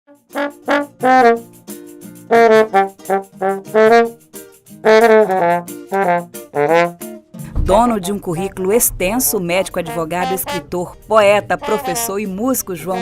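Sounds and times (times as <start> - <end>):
trombone melody: 0.1 - 1.6, 2.2 - 4.2, 4.8 - 7.2, 8.0 - 13.0.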